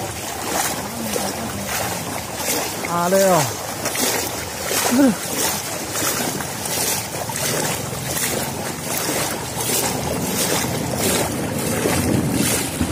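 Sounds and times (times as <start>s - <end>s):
floodwater rushing over ground: 0.0s - 12.9s.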